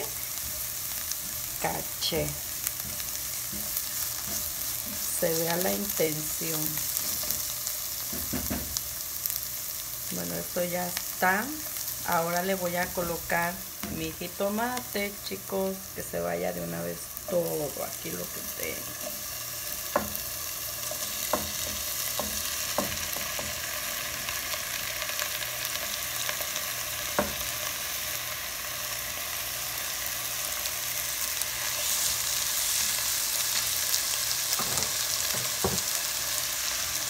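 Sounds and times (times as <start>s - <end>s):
vegetables sizzling in a frying pan: 0.0s - 37.0s.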